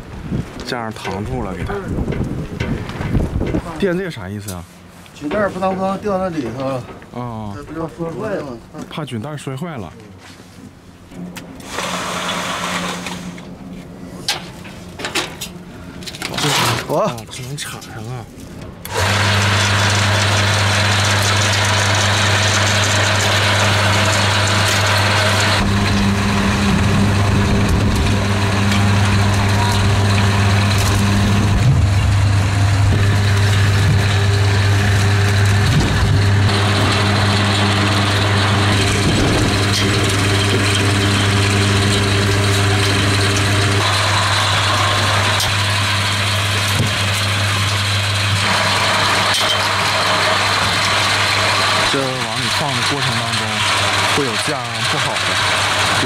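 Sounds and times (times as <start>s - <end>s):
conveyor motor humming: 10.8s - 56.0s.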